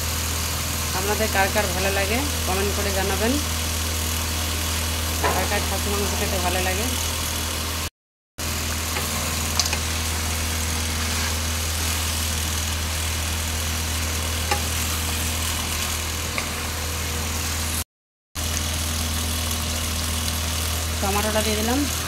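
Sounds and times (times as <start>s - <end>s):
meat frying in oil: 0.0s - 17.8s, 18.4s - 22.0s.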